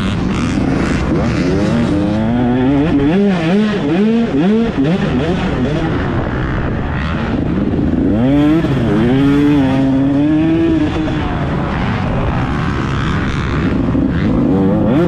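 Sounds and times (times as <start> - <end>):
racing engine at full throttle: 0.0 - 15.0.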